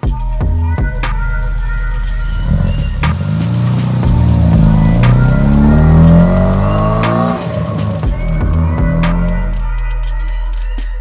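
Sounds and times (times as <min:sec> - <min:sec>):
music with low bass line: 0:00.0 - 0:11.0
sharp hits: 0:00.9 - 0:09.8.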